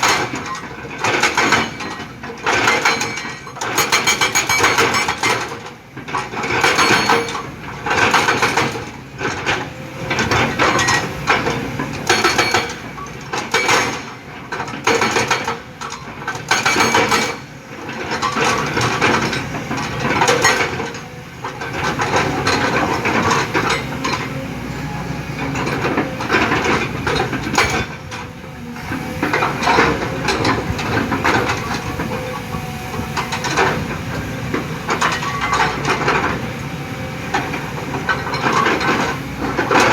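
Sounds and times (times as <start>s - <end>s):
excavator engine running: 0.0s - 39.9s
excavator metallic clanks: 0.0s - 39.9s.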